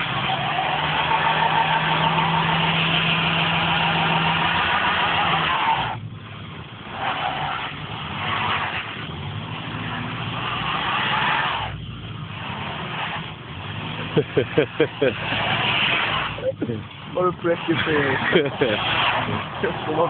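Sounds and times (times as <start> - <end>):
diesel lorry engine revving: 0.0 - 20.0
wheels spinning on snow: 0.0 - 20.0.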